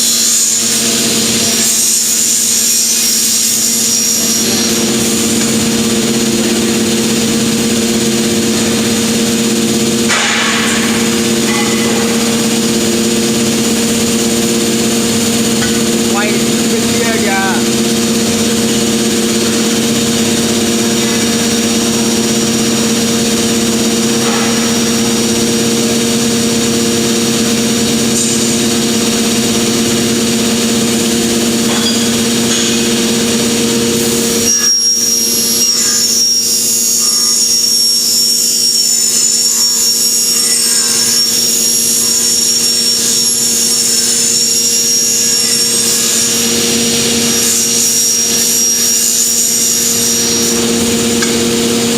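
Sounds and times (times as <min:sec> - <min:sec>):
cutting machine humming: 0:00.0 - 0:51.9
high-pitched machine whine: 0:00.0 - 0:51.9.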